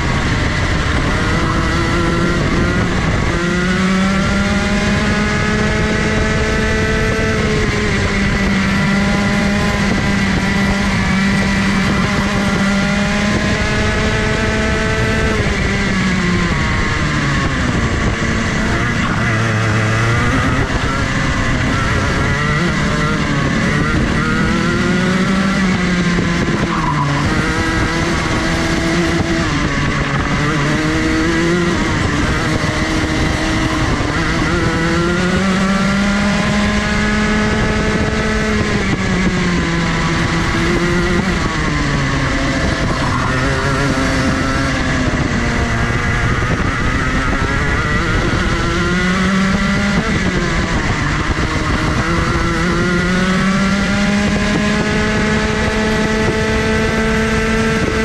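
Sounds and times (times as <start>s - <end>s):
kart engine at full throttle: 0.0s - 58.0s.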